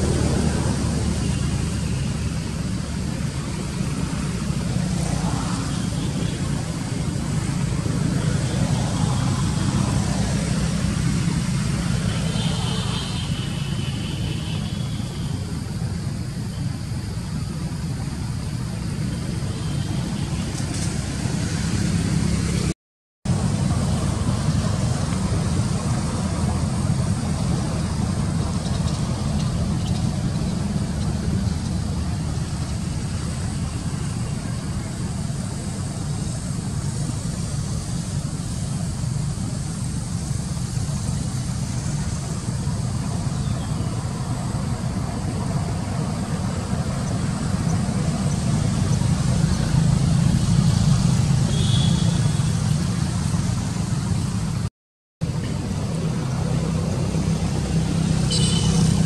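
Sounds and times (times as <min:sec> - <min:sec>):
low rumbling background noise: 0:00.0 - 0:59.0.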